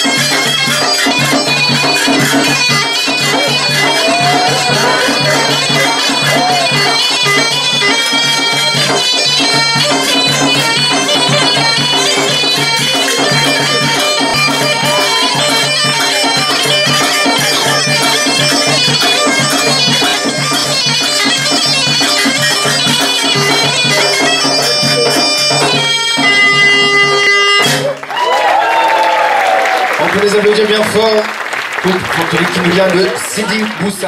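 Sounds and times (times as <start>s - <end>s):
bagpipe melody over drone: 0.0s - 27.8s
hand drum: 0.0s - 29.6s.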